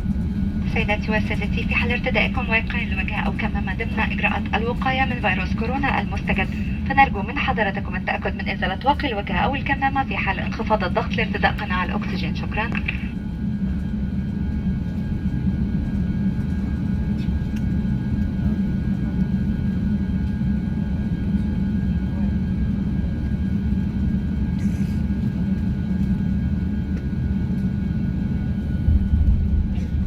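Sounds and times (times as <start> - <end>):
aircraft cabin rumble: 0.0 - 30.0.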